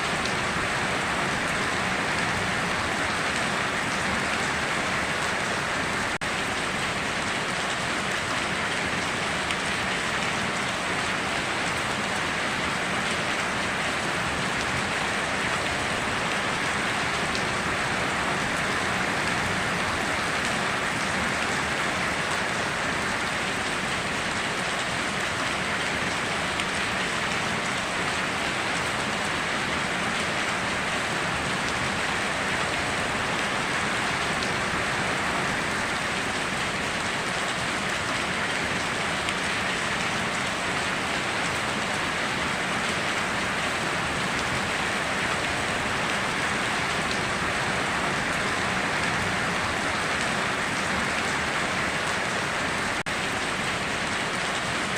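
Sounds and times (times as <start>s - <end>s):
heavy rain on foliage: 0.0s - 54.9s.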